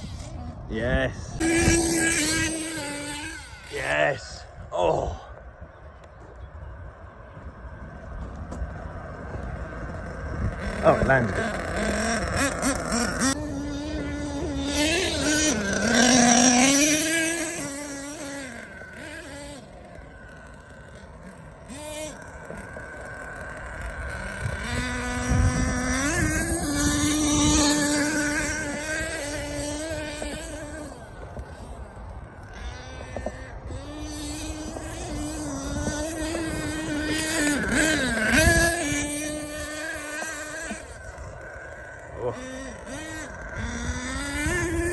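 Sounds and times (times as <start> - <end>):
model truck engine revving: 1.2 - 3.7, 8.1 - 44.9.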